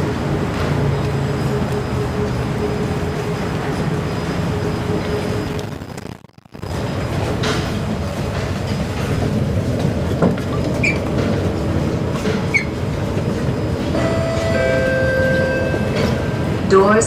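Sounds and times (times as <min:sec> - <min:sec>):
train hum and rumble: 0:00.0 - 0:06.0, 0:06.6 - 0:17.0.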